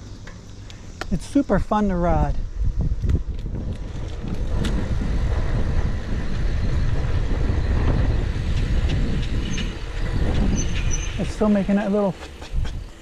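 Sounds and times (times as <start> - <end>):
bicycle tyres rolling on concrete: 0.0 - 13.0
wind buffeting microphone: 1.1 - 13.0.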